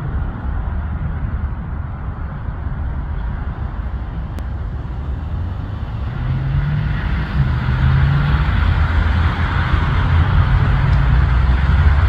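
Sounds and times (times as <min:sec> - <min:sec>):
car approaching: 0:00.0 - 0:12.0
jet engine rumble: 0:00.0 - 0:12.0
road traffic: 0:00.0 - 0:12.0.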